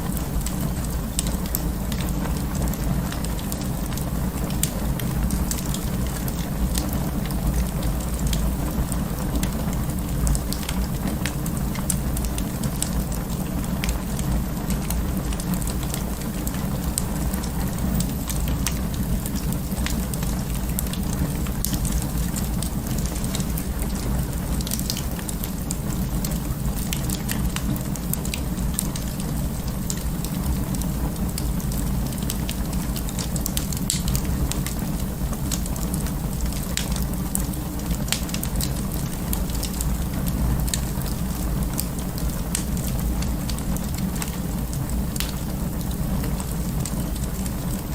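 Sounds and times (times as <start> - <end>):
low rumble of flames: 0.0 - 47.9
wood fire crackling: 0.0 - 47.9.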